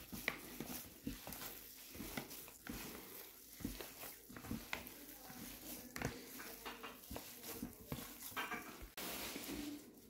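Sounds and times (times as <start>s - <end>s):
hand squelching soft food: 0.0s - 10.0s.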